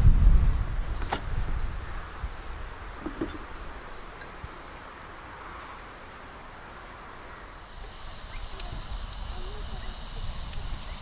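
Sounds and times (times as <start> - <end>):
low wind-like rumble: 0.0 - 5.8, 7.0 - 11.0
insects chirring: 0.9 - 11.0.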